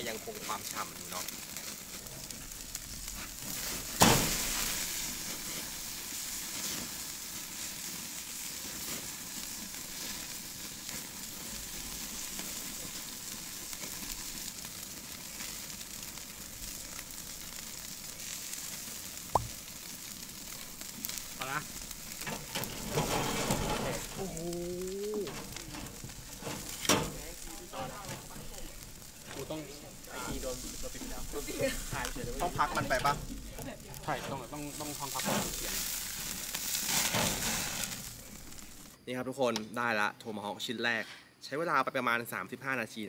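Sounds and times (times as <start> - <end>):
steak sizzling over charcoal: 0.0 - 39.0.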